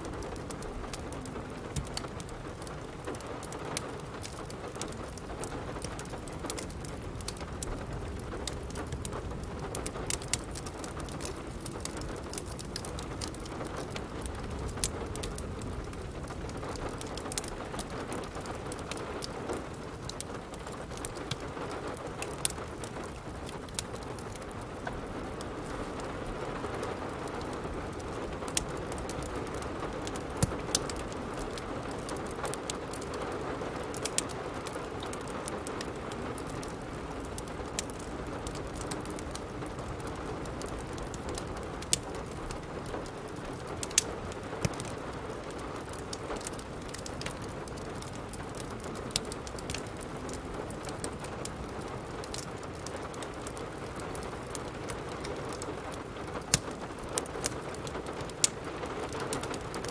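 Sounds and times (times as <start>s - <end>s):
steady rain: 0.0s - 59.9s
wood fire crackling: 0.0s - 59.9s.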